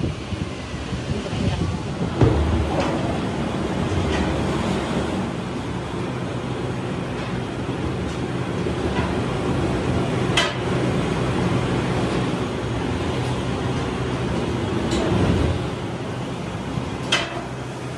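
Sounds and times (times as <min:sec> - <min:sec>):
machinery humming: 0:00.0 - 0:17.9.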